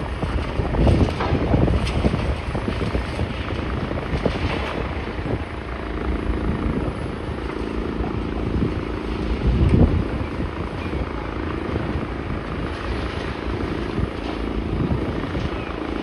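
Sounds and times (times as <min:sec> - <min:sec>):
engine knocks: 0:00.0 - 0:16.0
heavy engine rumbling: 0:00.0 - 0:16.0
steady hum: 0:00.0 - 0:16.0.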